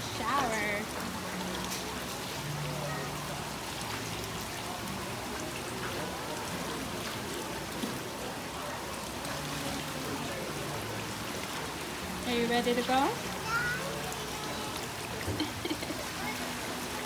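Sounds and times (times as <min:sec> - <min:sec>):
faint voices: 0:00.0 - 0:17.0
water running and splashing: 0:00.0 - 0:17.0.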